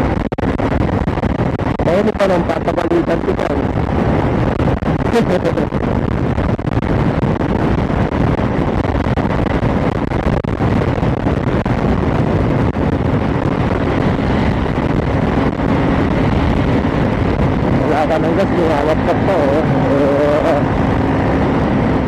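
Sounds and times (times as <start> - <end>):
motorcycle engine and road noise: 0.0 - 22.0
wind rush on microphone: 0.0 - 22.0.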